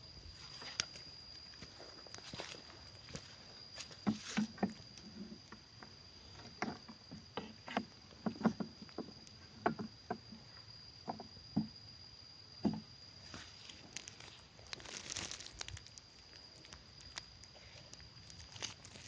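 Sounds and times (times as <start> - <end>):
high-pitched insect buzz: 0.0 - 19.0.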